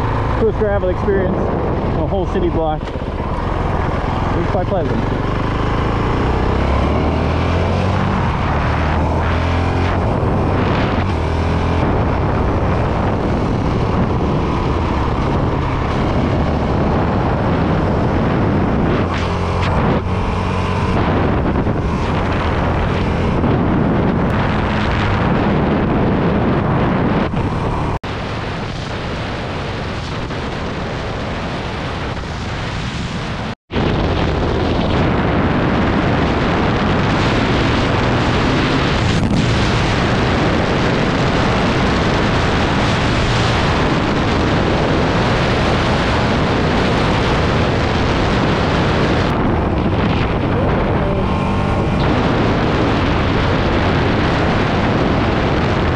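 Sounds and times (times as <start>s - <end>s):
motorcycle engine running: 0.0s - 32.3s, 33.3s - 55.9s
wind buffeting microphone: 0.0s - 55.9s.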